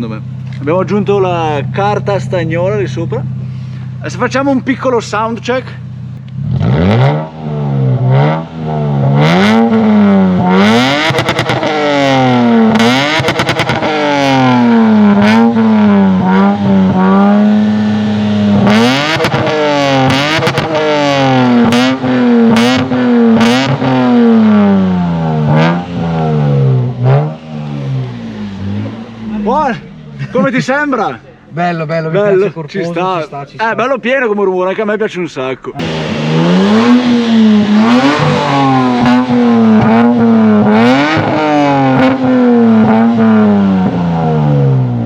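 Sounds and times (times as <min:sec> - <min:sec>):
car engine revving: 0:00.0 - 0:33.4, 0:35.4 - 0:45.0.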